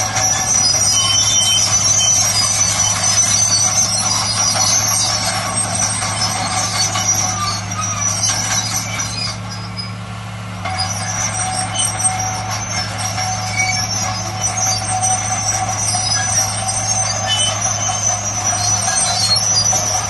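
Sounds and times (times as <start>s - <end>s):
diesel machinery engine hum: 0.0s - 20.0s
high-pitched metallic whines: 0.0s - 20.0s.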